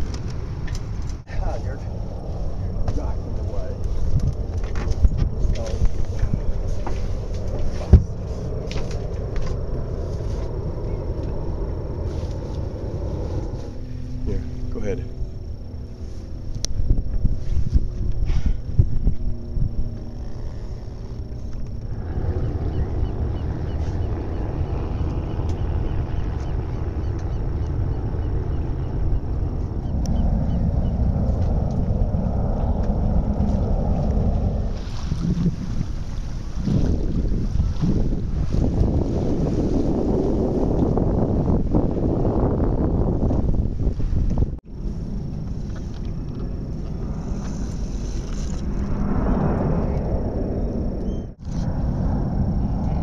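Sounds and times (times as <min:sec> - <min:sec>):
wind rumble on microphone: 0:00.0 - 0:53.0.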